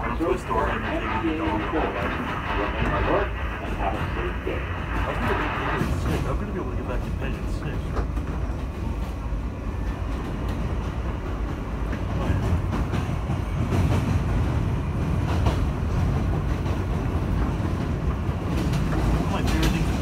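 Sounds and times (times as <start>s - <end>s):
subway wheels rumbling on rail: 0.0s - 20.0s.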